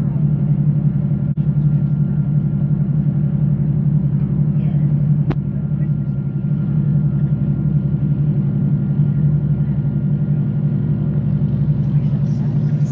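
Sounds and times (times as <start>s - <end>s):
train rumbling: 0.0s - 12.9s.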